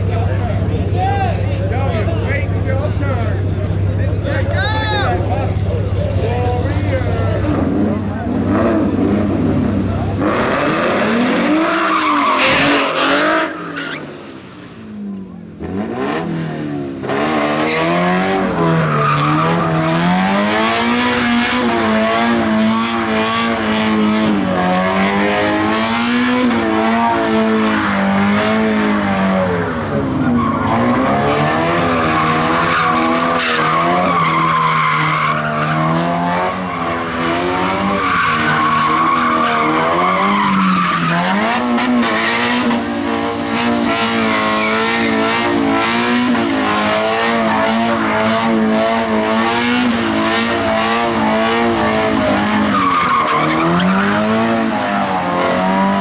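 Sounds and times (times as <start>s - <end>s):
car engine revving high: 0.0s - 56.0s
tires screeching: 0.0s - 56.0s.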